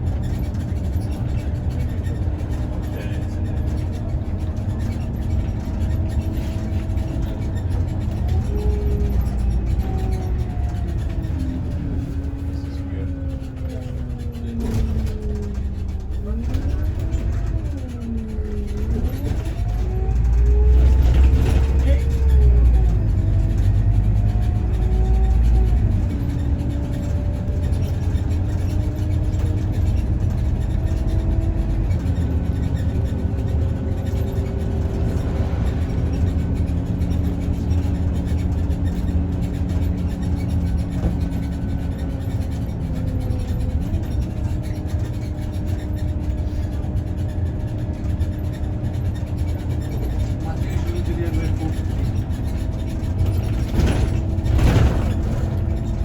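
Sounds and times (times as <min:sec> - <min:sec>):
bus engine and drivetrain drone: 0:00.0 - 0:56.0
heavy low rumble: 0:00.0 - 0:56.0.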